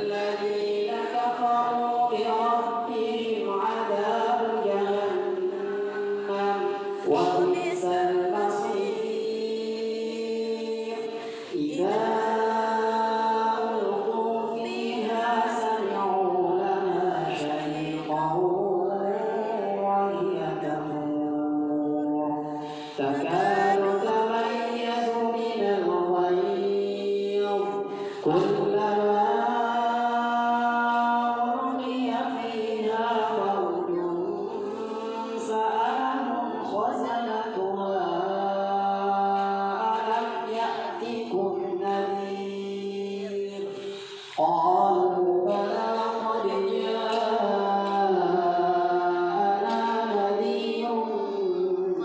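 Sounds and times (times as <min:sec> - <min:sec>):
group chanting in unison: 0:00.0 - 0:52.0.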